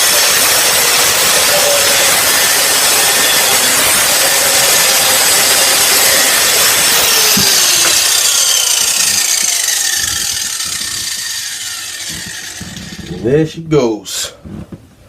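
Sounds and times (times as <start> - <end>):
angle grinder cutting steel bolt: 0.0 - 13.3.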